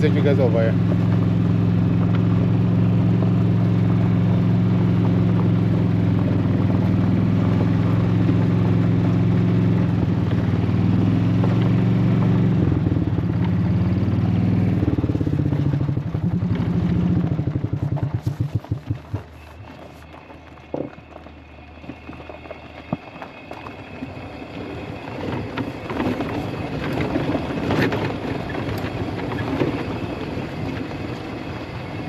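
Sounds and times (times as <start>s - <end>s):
golf cart engine running: 0.0s - 32.0s.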